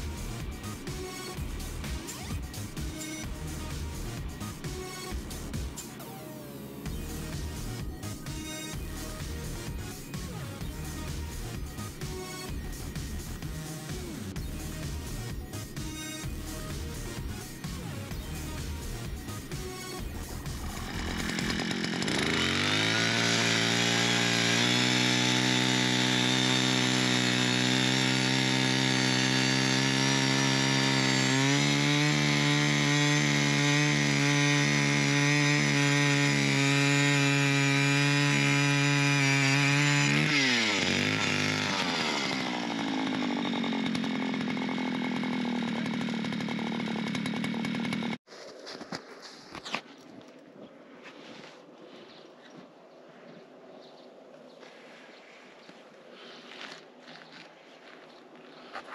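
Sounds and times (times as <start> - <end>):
small petrol engine revving: 0.0 - 48.3.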